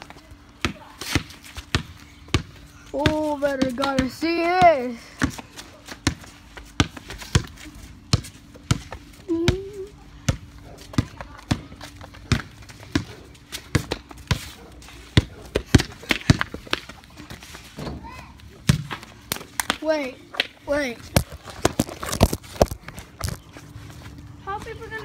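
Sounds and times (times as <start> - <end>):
basketball bouncing on pavement: 0.0 - 23.4.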